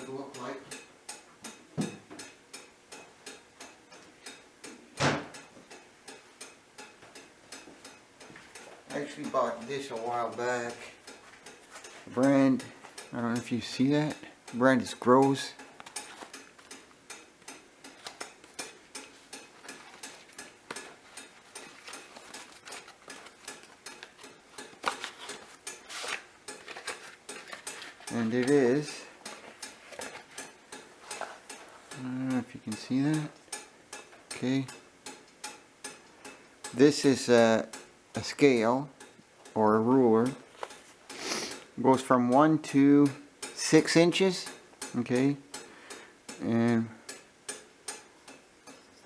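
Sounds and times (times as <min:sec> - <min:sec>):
steady ticking: 0:00.0 - 0:49.0.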